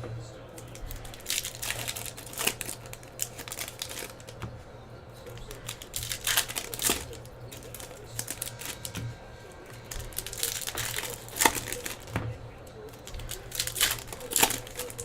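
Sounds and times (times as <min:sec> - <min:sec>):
foil wrappers crinkling and tearing: 0:00.0 - 0:15.0.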